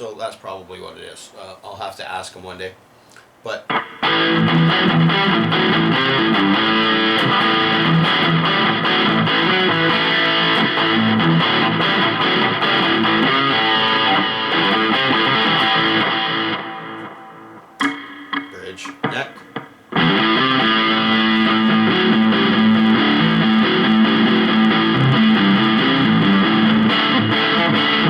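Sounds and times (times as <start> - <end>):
electric guitar chords and riffs: 3.7 - 28.0.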